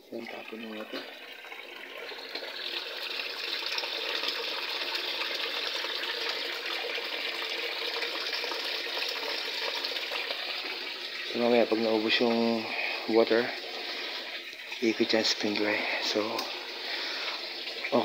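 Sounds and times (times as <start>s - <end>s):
water gushing from drain hose: 0.0s - 18.0s.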